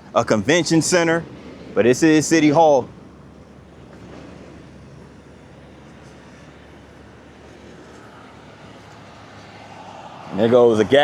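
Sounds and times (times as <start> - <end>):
distant traffic rumble: 0.0 - 11.0.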